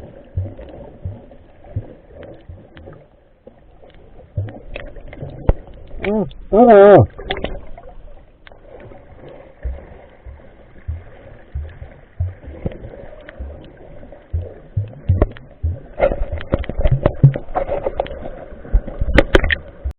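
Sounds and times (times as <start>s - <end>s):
sea water washing: 0.0s - 19.9s.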